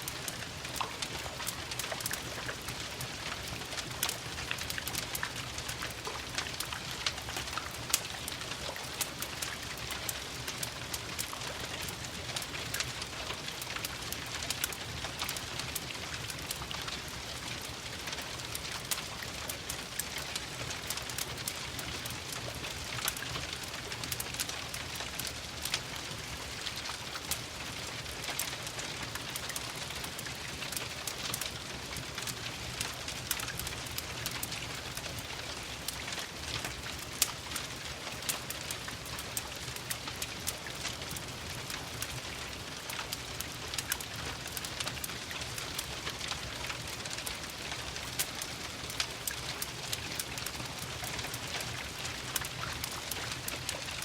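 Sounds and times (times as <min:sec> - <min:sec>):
fireplace fire crackling: 0:00.0 - 0:54.0
rain hissing and pattering: 0:00.0 - 0:54.0.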